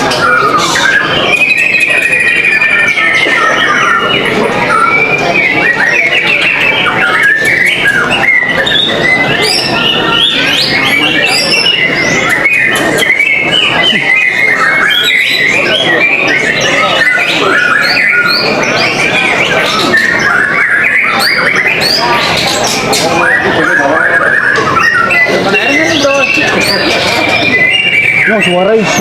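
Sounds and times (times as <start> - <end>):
birds singing: 0.0 - 29.0.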